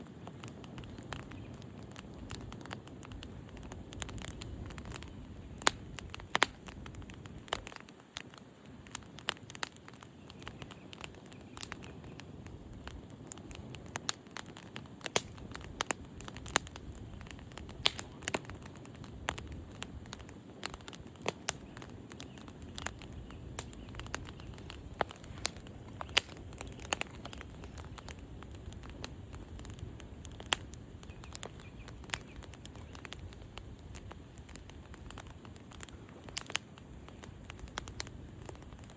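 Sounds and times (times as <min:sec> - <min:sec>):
low rush of flame: 0:00.0 - 0:38.9
wood fire crackling: 0:00.0 - 0:38.9.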